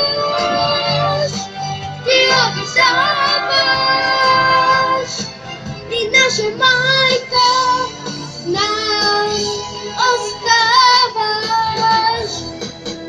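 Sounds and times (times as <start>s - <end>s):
boy singing a pop ballad: 0.0s - 12.8s
backing track: 0.0s - 13.0s.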